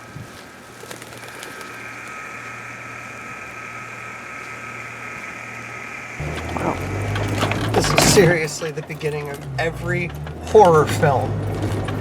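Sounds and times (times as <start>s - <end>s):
high engine whine: 0.0s - 12.0s
car engine idling: 0.3s - 12.0s.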